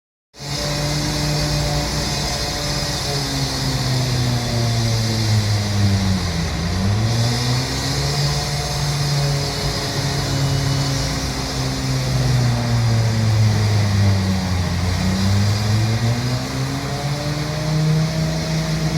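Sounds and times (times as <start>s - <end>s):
engine running: 0.4s - 18.9s.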